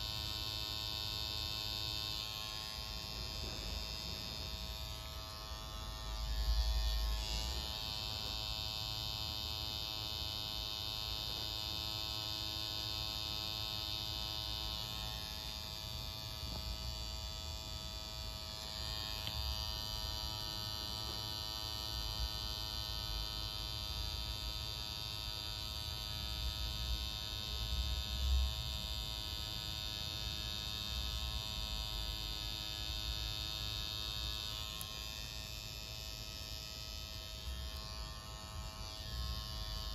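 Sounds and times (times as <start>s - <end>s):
tattoo machine buzzing: 0.0s - 39.9s.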